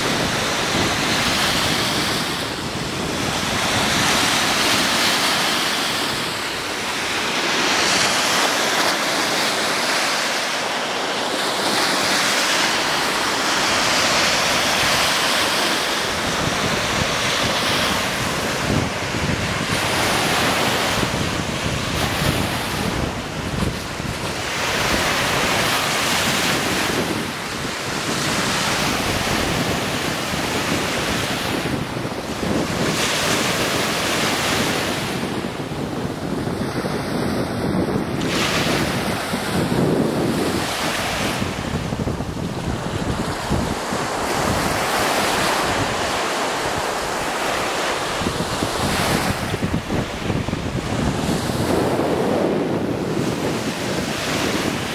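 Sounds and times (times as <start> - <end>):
waves washing up sand: 0.0 - 54.9
wind buffeting microphone: 0.0 - 54.9.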